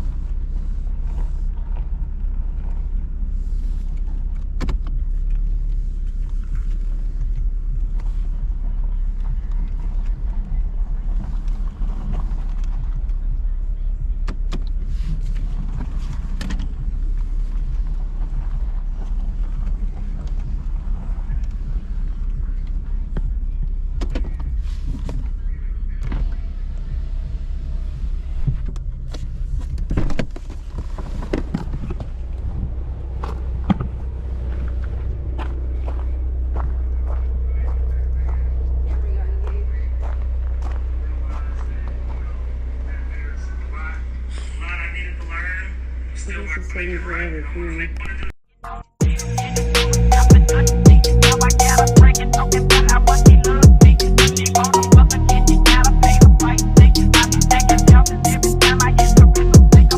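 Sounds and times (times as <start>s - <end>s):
car engine idling: 0.0s - 48.2s, 49.0s - 59.9s.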